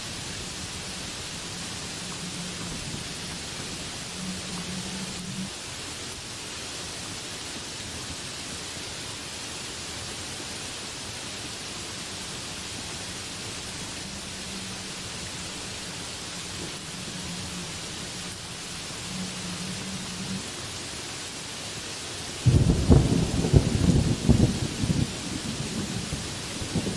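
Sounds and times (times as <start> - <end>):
heavy rain on leaves: 0.0 - 26.9.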